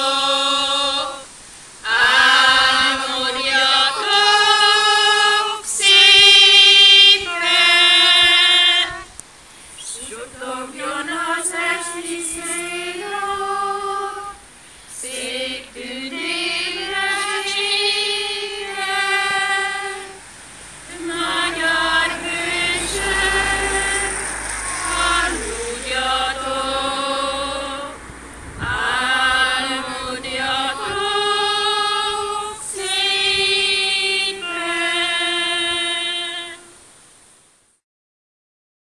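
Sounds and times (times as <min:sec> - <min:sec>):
women singing slow song: 0:00.0 - 0:37.3.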